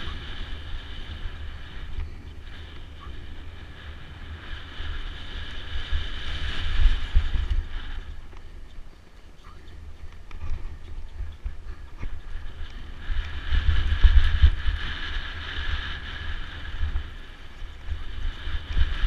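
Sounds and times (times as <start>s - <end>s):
bike tyres on dirt trail: 0.0s - 19.0s
wind buffeting microphone: 0.0s - 19.0s.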